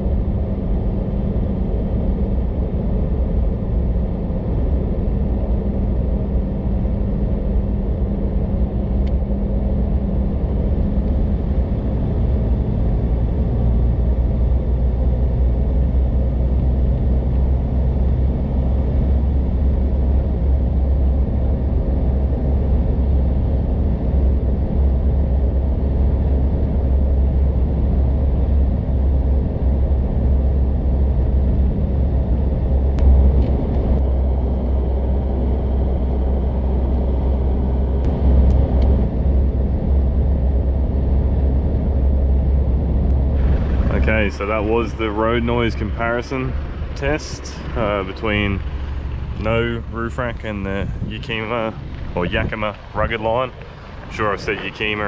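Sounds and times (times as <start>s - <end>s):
engine drone: 0.0s - 55.0s
wind noise: 0.0s - 55.0s.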